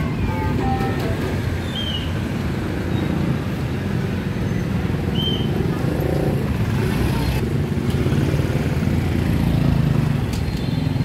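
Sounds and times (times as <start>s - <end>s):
motorbike engines running: 0.0s - 11.0s
street traffic: 0.0s - 11.0s.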